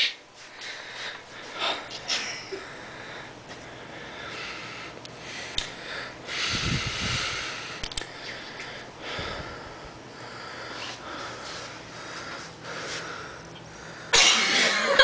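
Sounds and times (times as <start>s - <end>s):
person breathing and sniffing: 0.4s - 14.1s.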